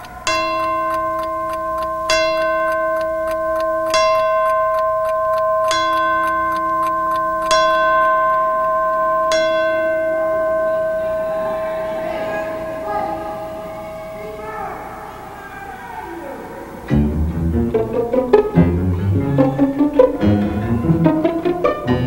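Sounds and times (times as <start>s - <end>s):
clock chimes ringing: 0.0s - 15.5s, 16.8s - 22.0s.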